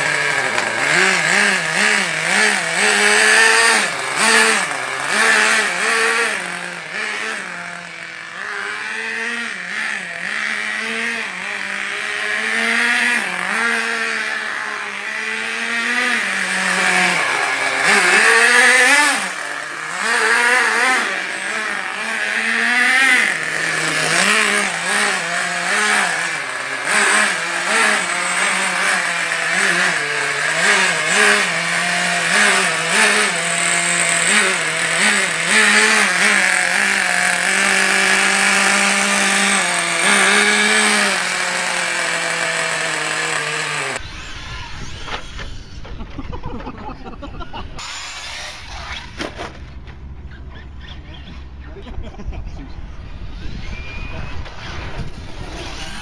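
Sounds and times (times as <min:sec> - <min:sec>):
small nitro engine revving: 0:00.0 - 0:56.0.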